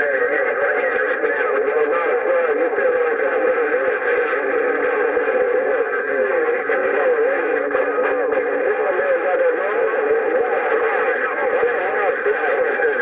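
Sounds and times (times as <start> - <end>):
garbled radio signals: 0.0 - 13.0
radio static: 0.0 - 13.0.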